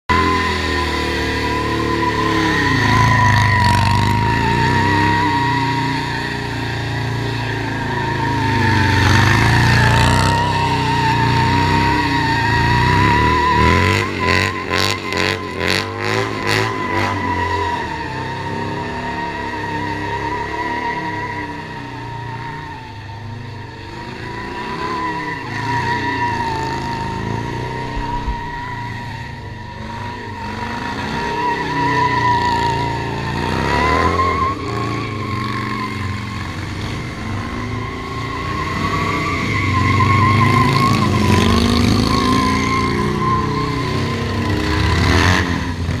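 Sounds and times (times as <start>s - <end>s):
motorcycle engines revving: 0.1s - 46.0s
tyre squealing: 0.1s - 46.0s.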